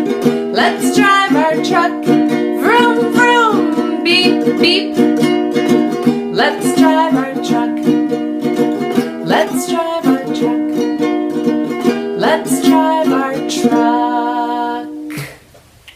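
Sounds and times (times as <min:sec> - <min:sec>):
acoustic string instrument strummed: 0:00.0 - 0:15.2.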